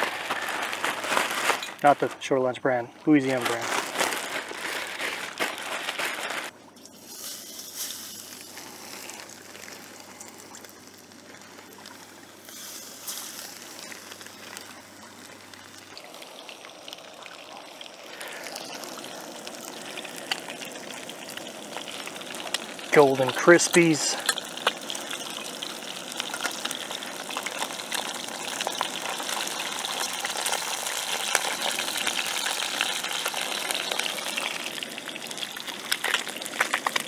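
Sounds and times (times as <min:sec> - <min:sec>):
fish sizzling in hot oil: 0:00.0 - 0:01.8, 0:03.8 - 0:37.0
plastic bag crinkling: 0:00.0 - 0:02.4, 0:03.0 - 0:17.1, 0:17.8 - 0:37.0.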